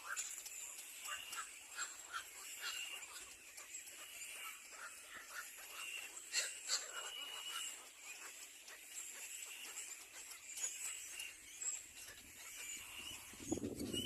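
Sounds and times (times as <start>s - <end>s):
baby birds cheeping: 0.0s - 14.0s.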